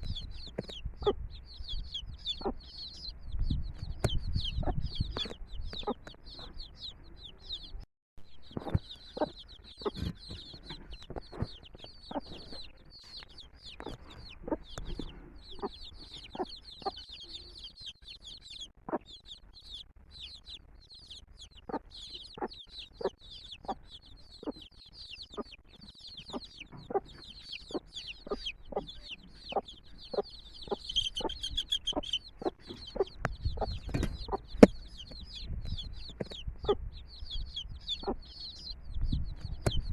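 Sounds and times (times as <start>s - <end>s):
hen clucking: 0.0s - 7.8s, 8.4s - 39.9s
chicks peeping: 0.0s - 39.9s.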